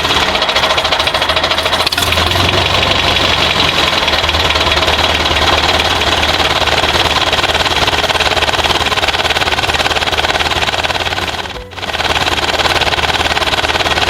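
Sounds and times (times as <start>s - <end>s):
toy tractor engine chugging: 0.0s - 14.0s.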